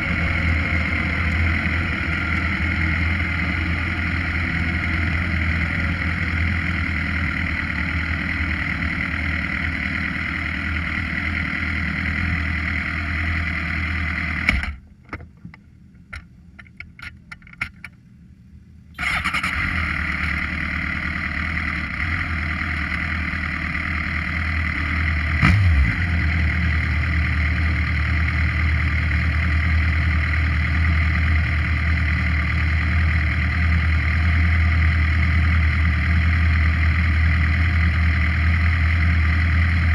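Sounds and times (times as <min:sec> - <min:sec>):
motorcycle engine running: 0:00.0 - 0:15.2, 0:19.0 - 0:39.9.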